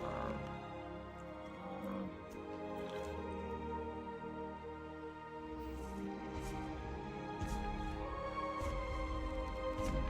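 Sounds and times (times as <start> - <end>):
slow music of held notes: 0.0 - 10.0.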